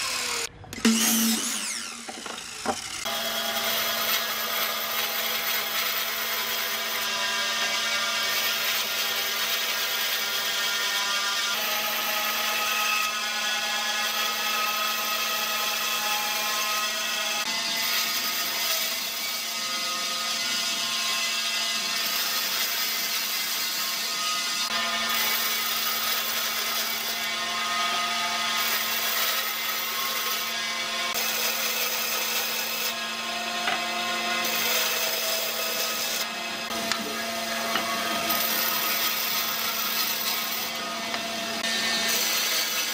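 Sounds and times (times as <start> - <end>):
band saw cutting wood: 0.0 - 42.9.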